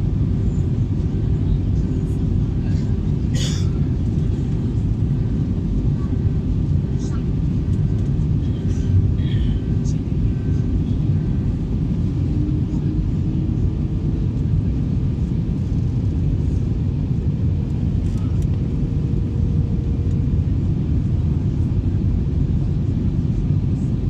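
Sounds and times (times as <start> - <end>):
airliner rumble: 0.0 - 24.0.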